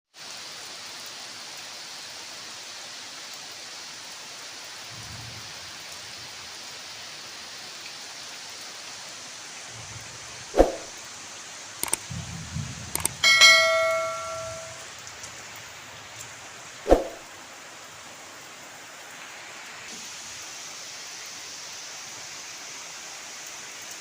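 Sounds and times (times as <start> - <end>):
rain falling: 0.2 - 24.0.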